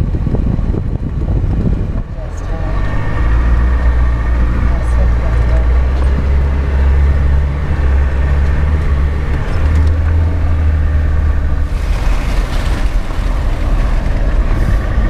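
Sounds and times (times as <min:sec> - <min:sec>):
engine droning while driving: 0:00.0 - 0:15.0.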